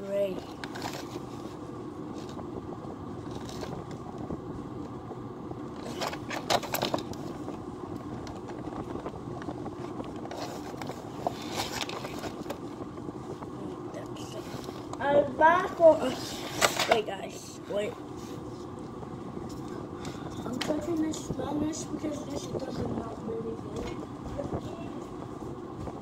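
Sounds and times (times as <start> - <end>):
low background noise: 0.0 - 26.0.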